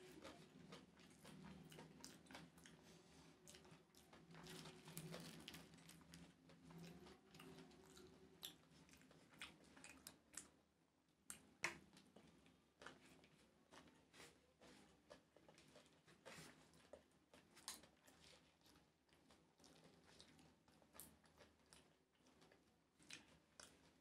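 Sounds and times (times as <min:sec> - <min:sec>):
faint chewing and mouth smacks: 0:00.0 - 0:24.0.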